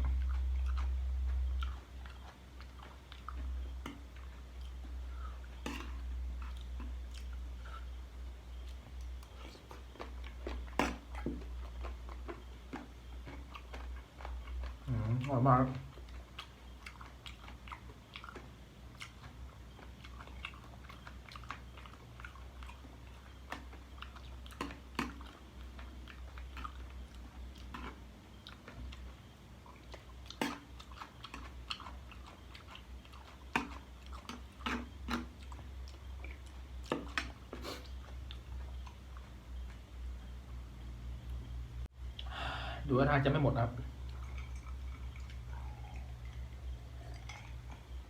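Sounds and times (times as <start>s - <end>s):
person chewing crunchy food: 0.0s - 40.3s, 43.9s - 48.0s.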